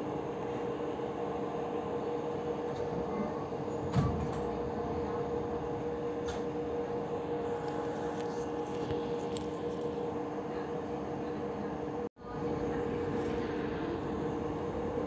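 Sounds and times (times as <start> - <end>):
train carriage hum and rumble: 0.0 - 15.0.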